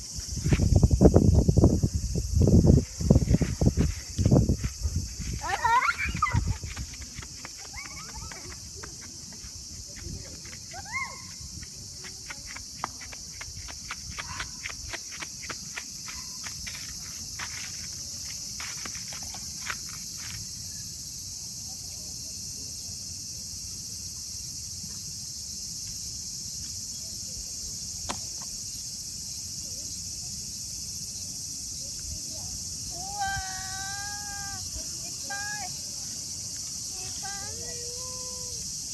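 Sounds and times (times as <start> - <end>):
insects chorus: 0.0 - 38.9.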